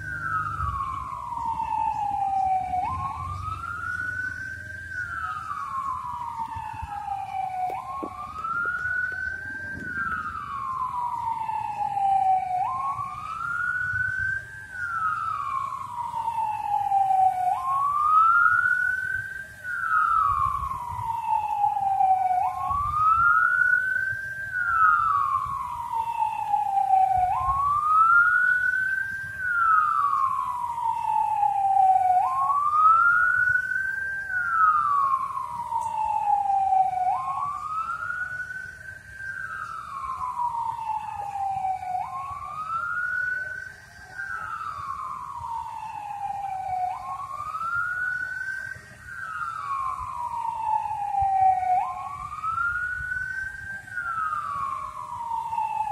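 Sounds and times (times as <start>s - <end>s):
siren wailing: 0.0s - 55.9s.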